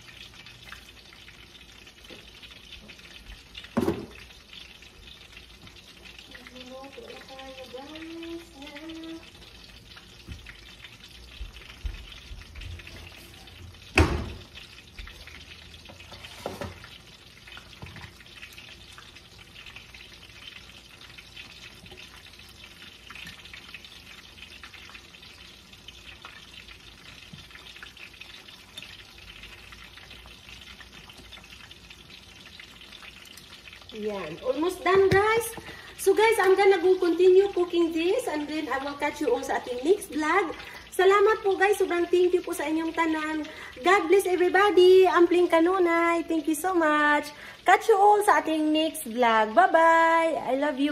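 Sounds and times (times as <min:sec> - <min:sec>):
food sizzling in a pan: 0:00.0 - 0:50.9.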